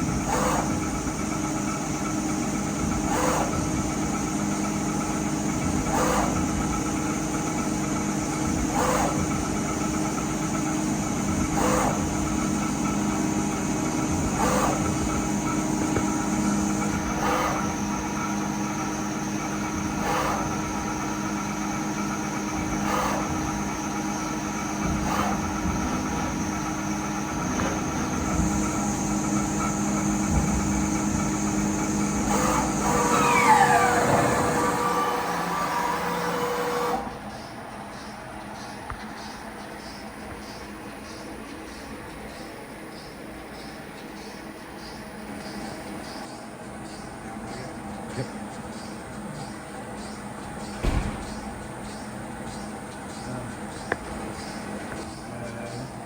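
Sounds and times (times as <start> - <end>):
machine humming: 0.0 - 56.0.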